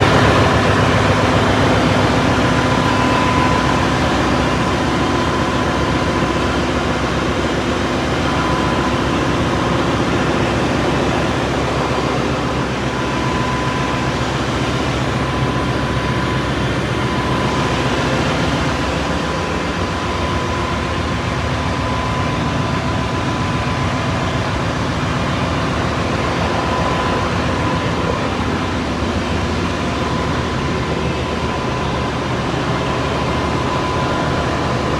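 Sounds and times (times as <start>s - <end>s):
engine room machinery drone: 0.0s - 34.9s
thin constant whine: 0.0s - 34.9s.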